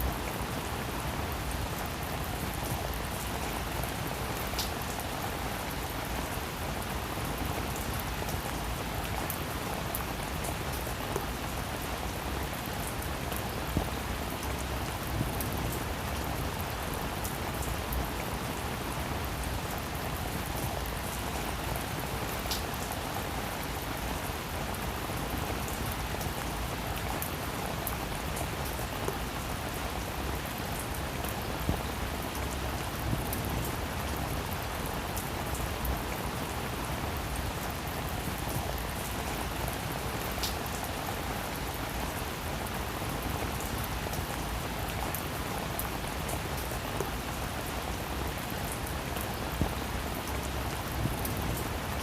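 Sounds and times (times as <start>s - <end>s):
rain falling on a roof: 0.0s - 52.0s.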